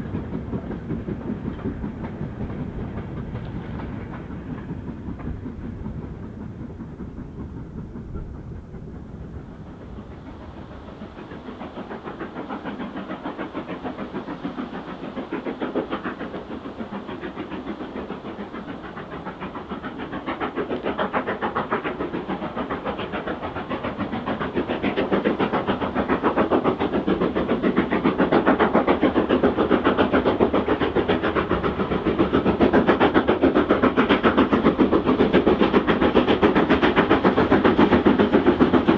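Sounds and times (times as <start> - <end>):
steam locomotive exhaust beats: 0.0 - 38.9.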